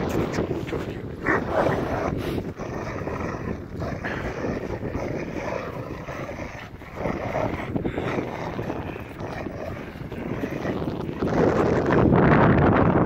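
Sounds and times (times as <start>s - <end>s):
dogs growling: 0.0s - 12.2s.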